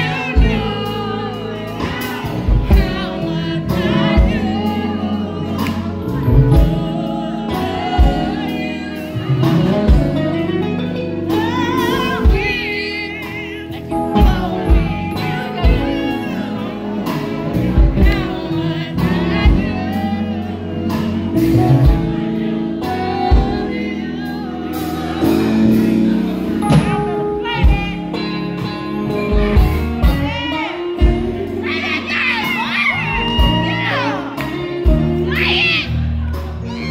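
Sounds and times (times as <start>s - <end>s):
drum kit: 0.0s - 36.9s
electric bass: 0.0s - 36.9s
electric guitar: 0.0s - 36.9s
person singing: 0.0s - 36.9s.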